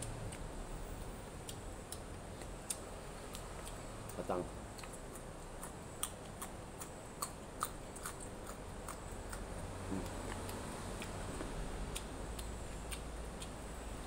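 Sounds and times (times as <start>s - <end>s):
faint low hum: 0.0s - 14.0s
people chewing with smacks: 0.0s - 14.0s.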